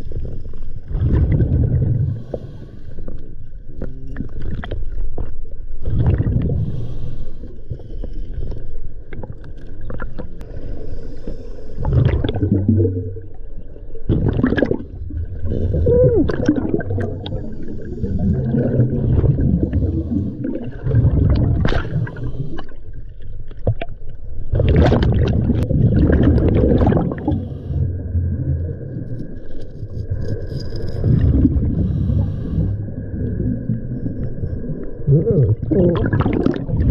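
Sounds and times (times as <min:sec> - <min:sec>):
underwater exhaled bubbles gurgling: 0:00.0 - 0:36.9.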